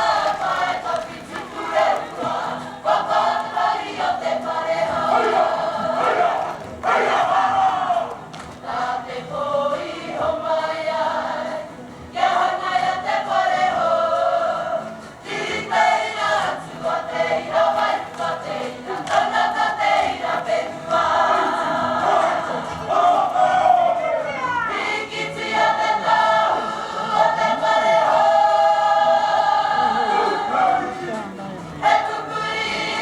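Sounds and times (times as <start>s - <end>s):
group of voices singing: 0.0s - 33.0s.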